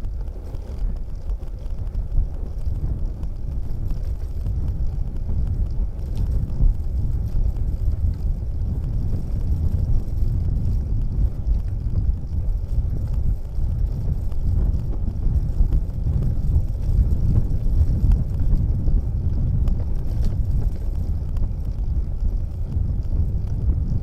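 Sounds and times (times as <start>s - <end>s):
faint ticks: 0.0s - 24.0s
low rumble: 0.0s - 24.0s.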